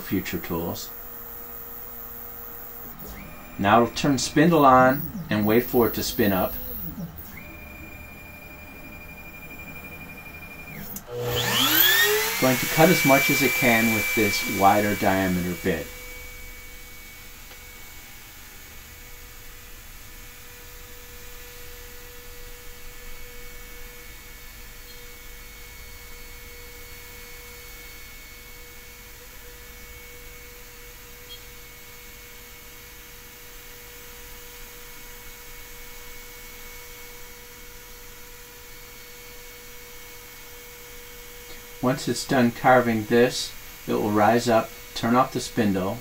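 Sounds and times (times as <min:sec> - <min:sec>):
router spindle whining: 0:00.0 - 0:46.0.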